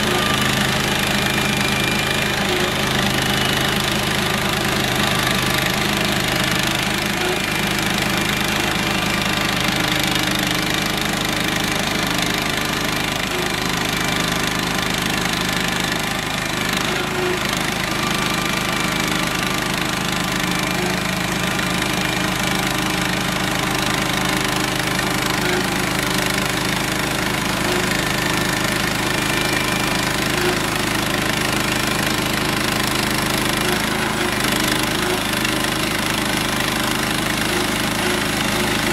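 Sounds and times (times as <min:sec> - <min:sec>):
blade sawing boards: 0:00.0 - 0:38.9
sawmill engine running: 0:00.0 - 0:38.9.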